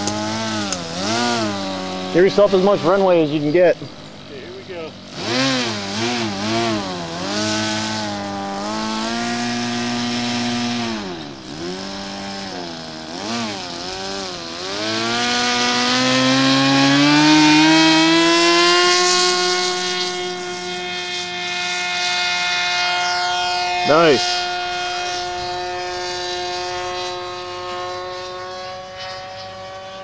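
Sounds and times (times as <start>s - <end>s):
model plane engine revving: 0.0s - 30.0s.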